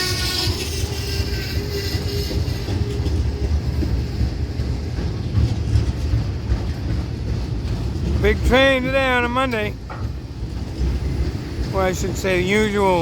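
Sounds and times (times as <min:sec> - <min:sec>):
freight train rumbling: 0:00.0 - 0:13.0
wheels clattering over rails: 0:00.0 - 0:13.0.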